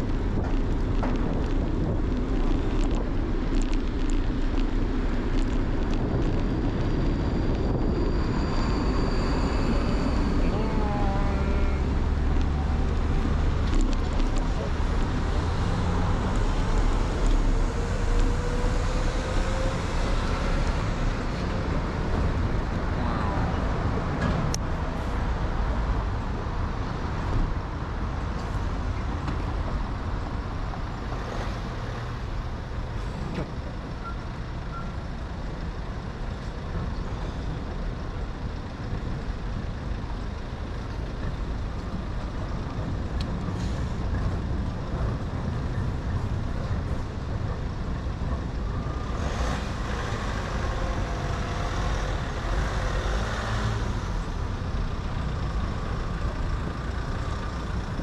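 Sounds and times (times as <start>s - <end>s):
heavy vehicle engine: 0.0s - 58.0s
traffic rumble: 0.0s - 58.0s.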